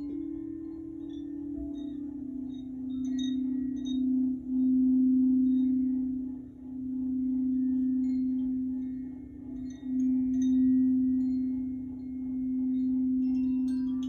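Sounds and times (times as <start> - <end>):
crystal singing bowl low tone: 0.0 - 14.0.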